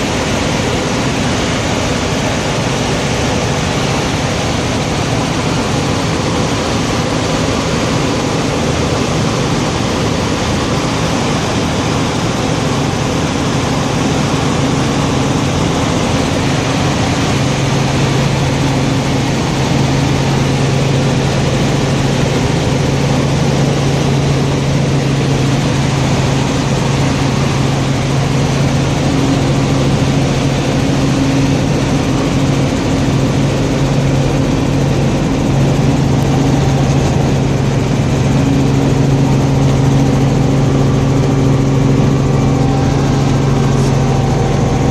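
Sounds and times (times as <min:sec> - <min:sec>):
helicopter engine and rotor droning: 0:00.0 - 0:44.9.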